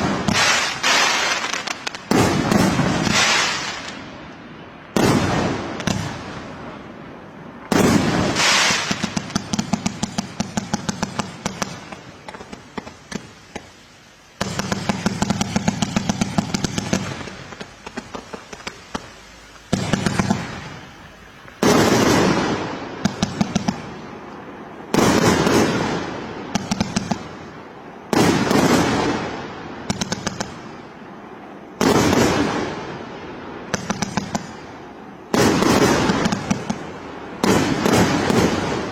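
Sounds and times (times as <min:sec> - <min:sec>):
fireworks bangs and crackle: 0:00.0 - 0:38.9.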